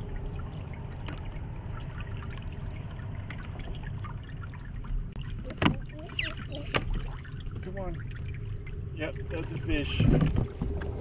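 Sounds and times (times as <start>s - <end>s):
small waves lapping against hull: 0.0s - 11.0s
steady low rumble: 0.0s - 11.0s.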